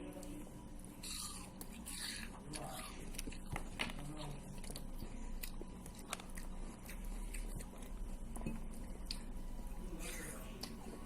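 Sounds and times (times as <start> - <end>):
steady low hum: 0.0 - 11.0
chewing crunchy food: 0.1 - 11.0.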